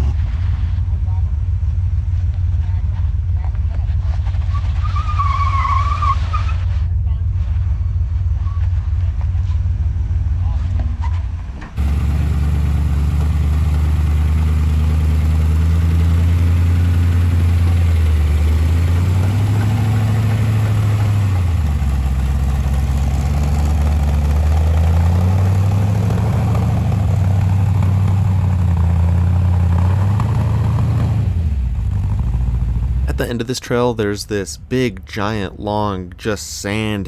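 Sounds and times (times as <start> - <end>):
off-road vehicle engine at low revs: 0.0 - 37.0.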